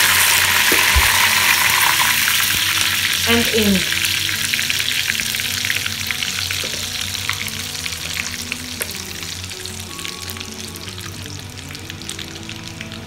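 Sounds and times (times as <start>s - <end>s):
hot oil sizzling in a pan: 0.0s - 13.0s
soft background music: 0.0s - 13.0s.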